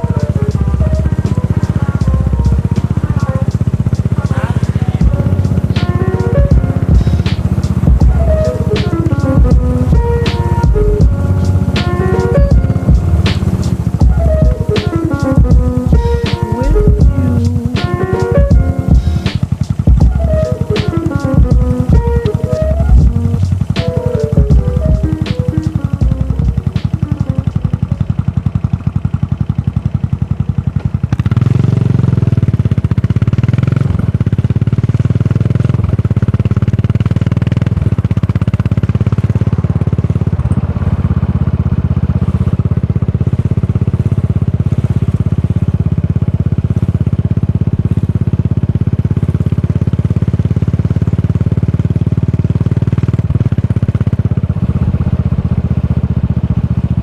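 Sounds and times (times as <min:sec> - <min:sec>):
motorcycle engine thumping exhaust: 0:00.0 - 0:57.0.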